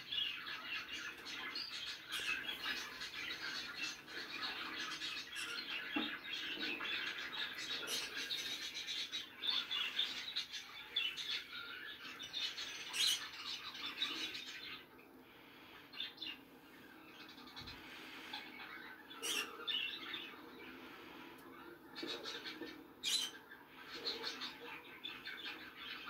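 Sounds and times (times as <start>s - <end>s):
birds chirping and squawking: 0.0s - 26.0s.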